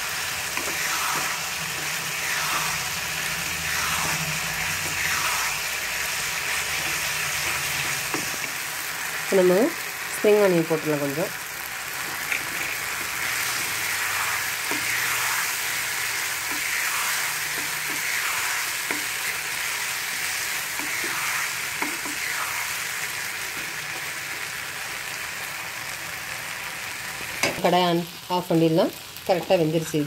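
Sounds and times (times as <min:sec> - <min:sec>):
vegetables sizzling in pan: 0:00.0 - 0:30.0.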